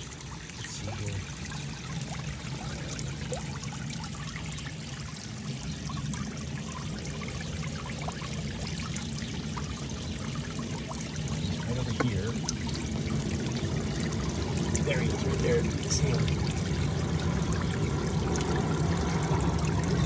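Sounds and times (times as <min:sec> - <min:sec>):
running water trickling: 0:00.0 - 0:20.0.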